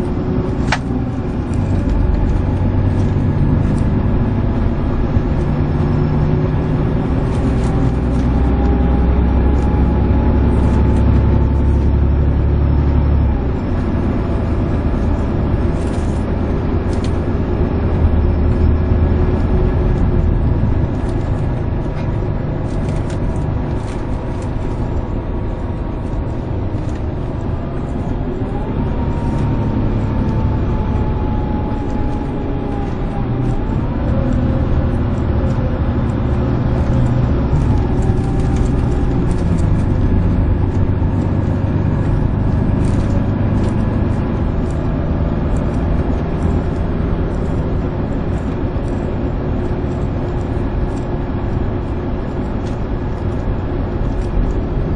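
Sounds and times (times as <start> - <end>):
diesel engine accelerating: 0.0 - 54.9.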